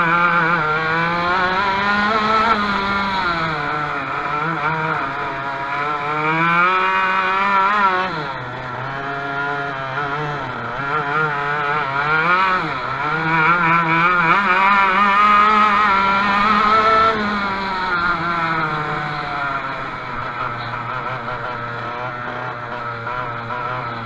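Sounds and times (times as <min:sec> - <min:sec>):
kart engine running hard: 0:00.0 - 0:24.0.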